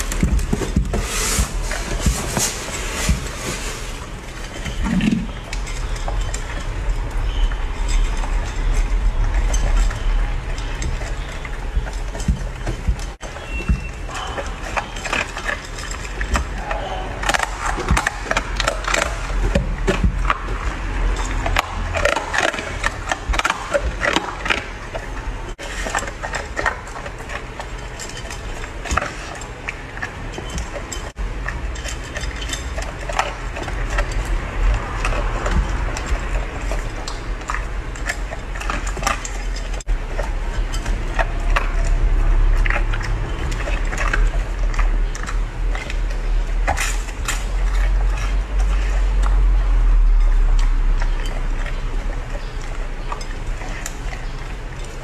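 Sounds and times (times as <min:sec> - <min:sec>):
dog crunching dry kibble: 0:00.0 - 0:55.0.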